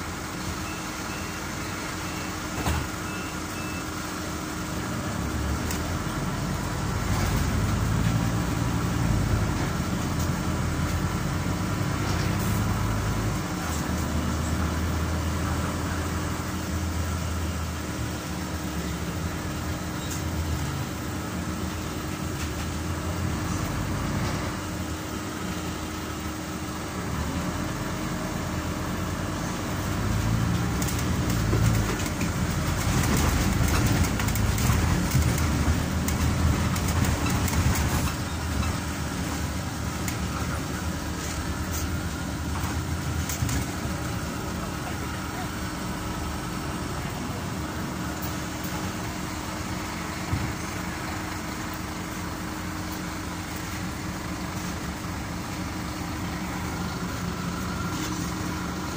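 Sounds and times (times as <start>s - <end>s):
bus engine drone: 0.0s - 58.9s
road and body noise: 4.2s - 58.9s.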